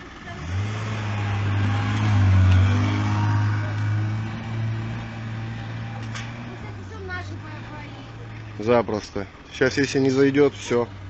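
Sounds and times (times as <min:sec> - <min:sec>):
car engine driving past: 0:00.0 - 0:09.3.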